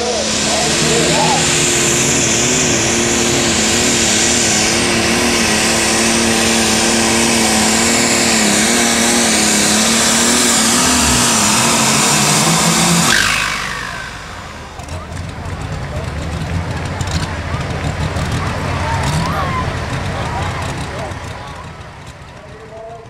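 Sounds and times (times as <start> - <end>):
tractor engine at high revs: 0.0 - 23.0.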